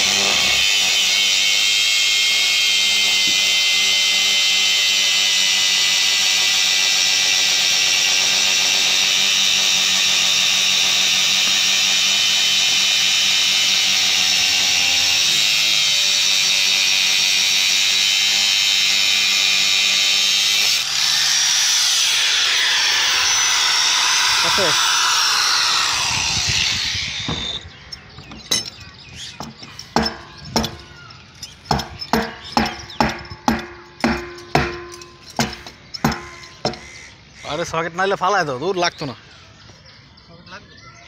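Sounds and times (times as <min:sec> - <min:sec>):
angle grinder whining: 0:00.0 - 0:37.1.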